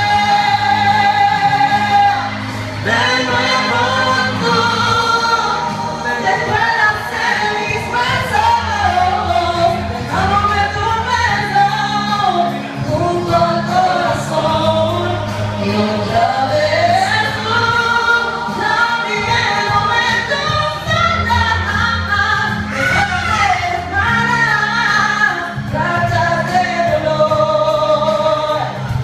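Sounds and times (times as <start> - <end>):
karaoke backing track: 0.0 - 29.0
woman singing into a microphone: 0.0 - 29.0.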